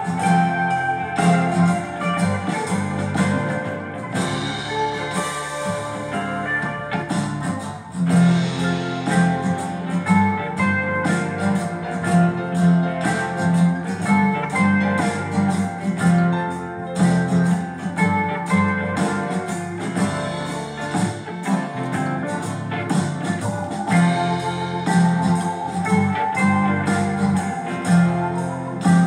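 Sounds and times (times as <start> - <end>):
instrumental background music: 0.0 - 29.0.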